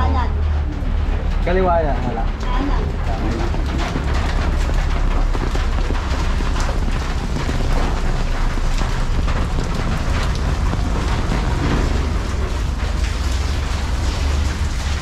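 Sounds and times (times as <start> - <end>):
deep rumble: 0.0 - 15.0
rain pattering: 0.0 - 15.0.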